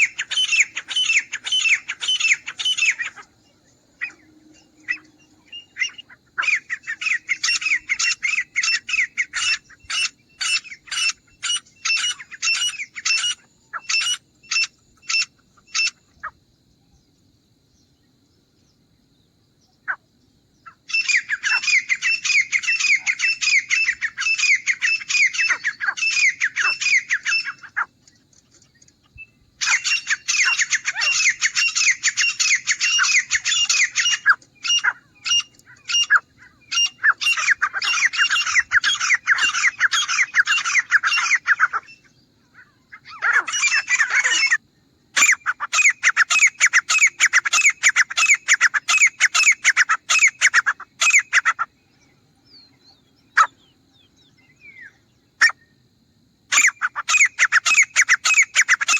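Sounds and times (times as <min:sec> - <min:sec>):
francolin calling: 0:00.0 - 0:58.9.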